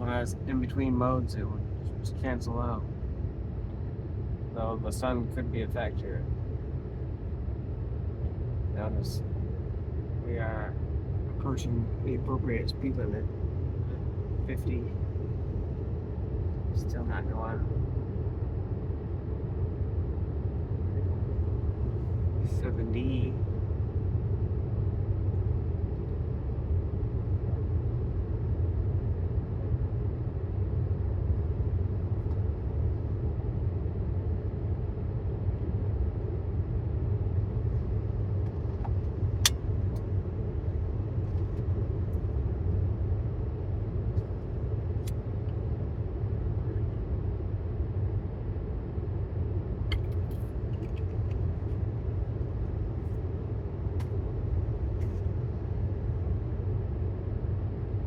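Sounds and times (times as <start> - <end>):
road and tyre rumble in car: 0.0 - 58.0.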